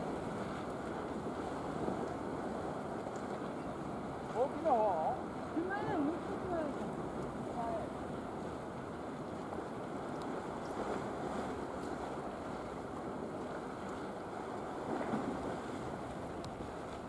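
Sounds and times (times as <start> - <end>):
sea: 0.0 - 17.0
wind buffeting microphone: 0.0 - 17.0.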